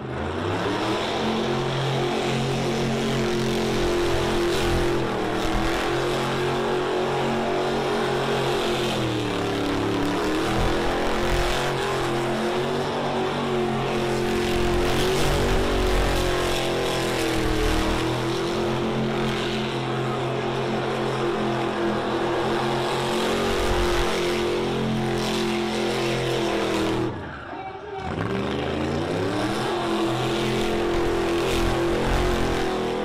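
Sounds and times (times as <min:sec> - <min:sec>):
car engine at high revs: 0:00.0 - 0:27.3, 0:28.0 - 0:33.0.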